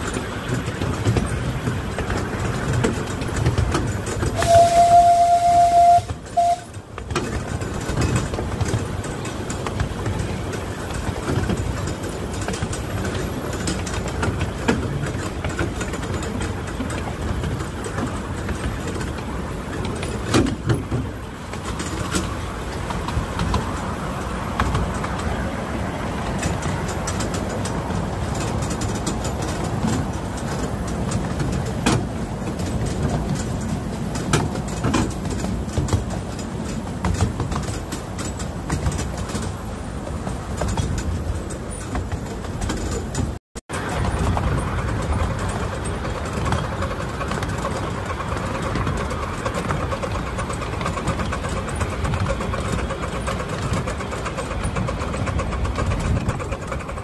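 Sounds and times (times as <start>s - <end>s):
wheels clicking over rail joints: 0.0s - 57.0s
wheels rumbling on rail: 0.0s - 57.0s.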